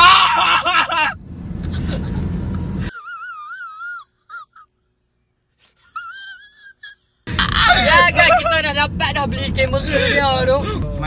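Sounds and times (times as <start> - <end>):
road noise inside a car: 0.0 - 11.0.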